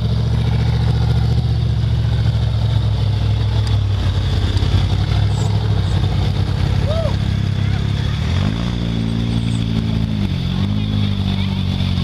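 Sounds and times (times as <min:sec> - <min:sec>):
buggy engine running under load: 0:00.0 - 0:12.0.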